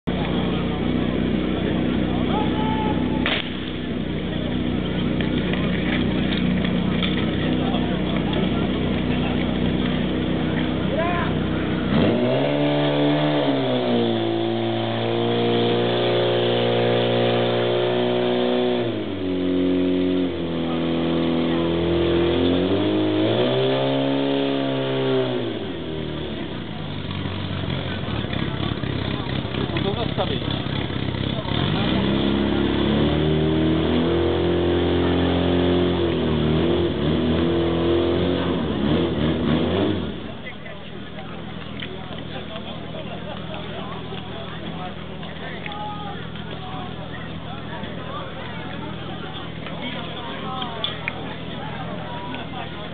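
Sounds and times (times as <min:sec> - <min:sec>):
pump engine running at high revs: 0:00.0 - 0:52.9.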